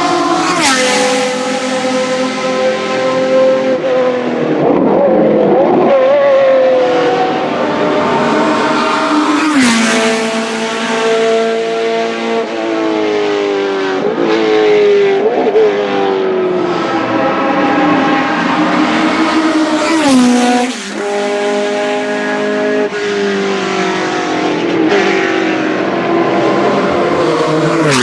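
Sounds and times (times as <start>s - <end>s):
car passing close by: 0.0s - 15.1s, 15.8s - 28.0s
racing car engines revving: 0.0s - 28.0s.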